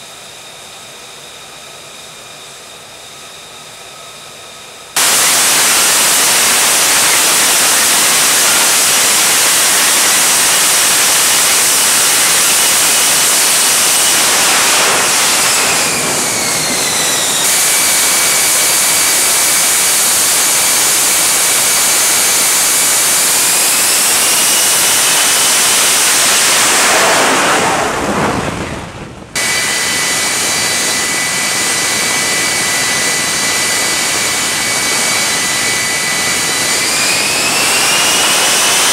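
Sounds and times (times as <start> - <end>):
jet engine roaring with whine: 0.0 - 38.9.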